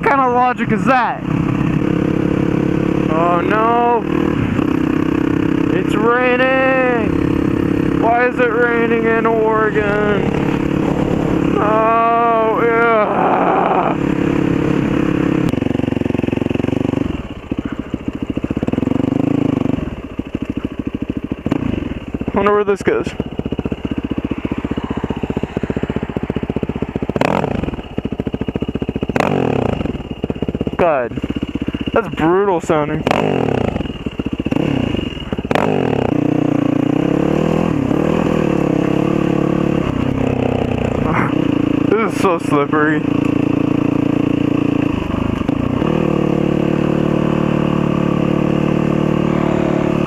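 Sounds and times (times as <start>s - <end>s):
dirt bike engine: 0.0s - 50.0s.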